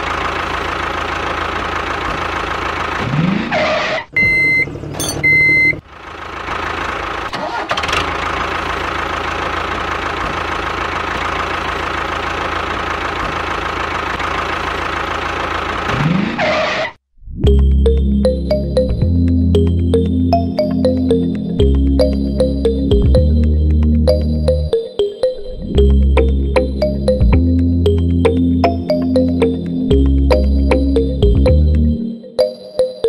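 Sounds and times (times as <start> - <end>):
tractor engine running: 0.0 - 16.3, 17.5 - 33.0.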